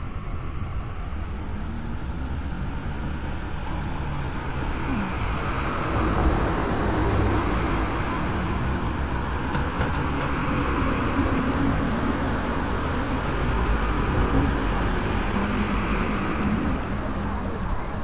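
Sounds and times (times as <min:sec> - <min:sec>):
car passing: 0:00.0 - 0:18.0
street traffic hum: 0:00.0 - 0:18.0.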